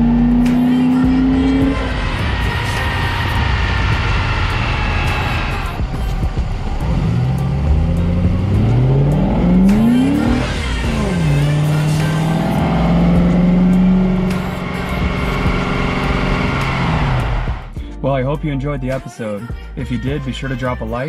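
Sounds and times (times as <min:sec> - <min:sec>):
car engine revving: 0:00.0 - 0:17.8.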